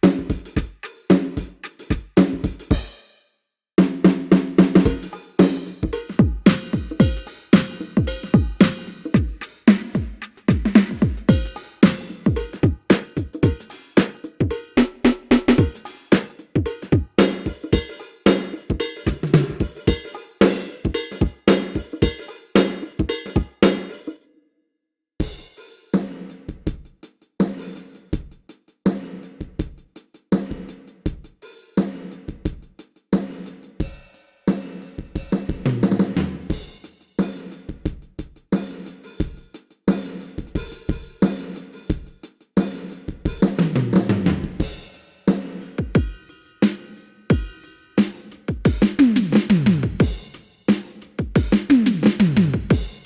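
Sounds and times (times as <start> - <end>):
drum kit groove: 0.0 - 3.2, 3.8 - 24.2, 25.2 - 53.0.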